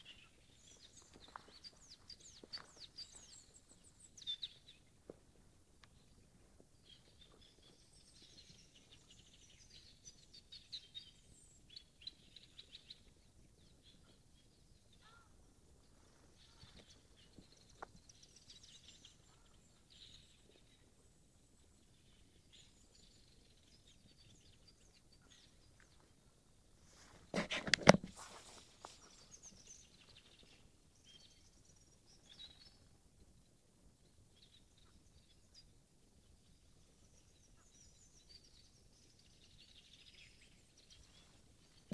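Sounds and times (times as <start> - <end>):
small birds chirping and trilling: 0.0 - 5.1, 5.8 - 27.4, 28.1 - 41.9.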